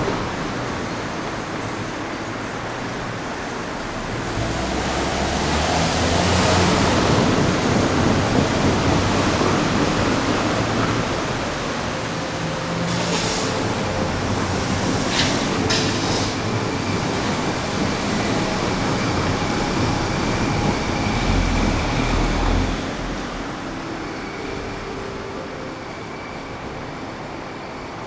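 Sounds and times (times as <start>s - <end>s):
electric train rumbling past: 0.0s - 28.0s.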